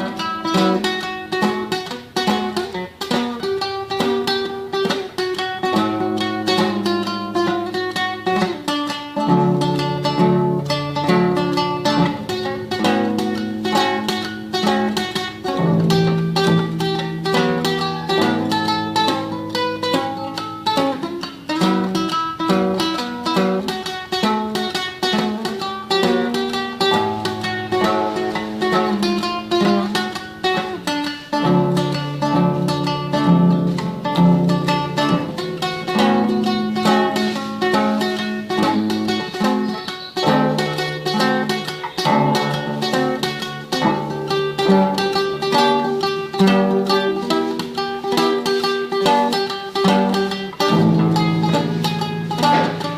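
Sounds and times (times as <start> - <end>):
classical guitar tremolo: 0.0 - 52.9.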